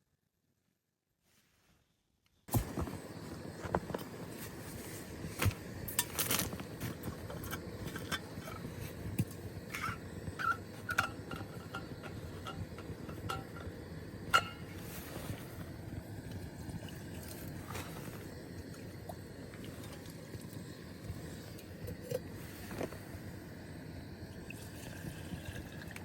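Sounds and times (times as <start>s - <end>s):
background hiss: 1.2s - 26.0s.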